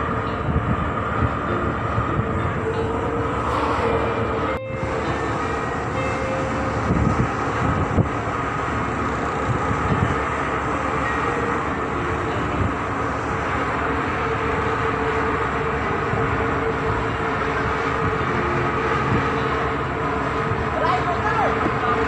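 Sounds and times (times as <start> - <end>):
machinery rumble and hum: 0.0 - 22.0.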